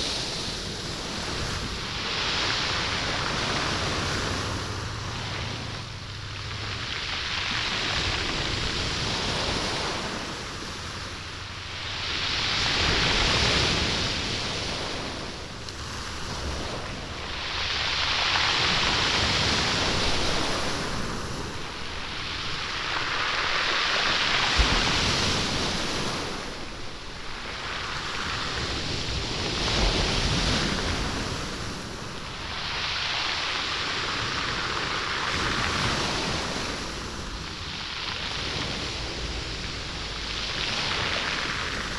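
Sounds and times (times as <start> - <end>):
waves on stony beach: 0.0 - 41.9.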